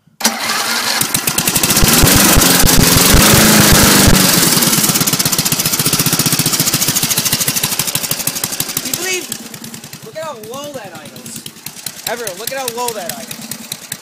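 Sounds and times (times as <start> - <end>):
lawnmower engine starting and idling: 0.0 - 14.0.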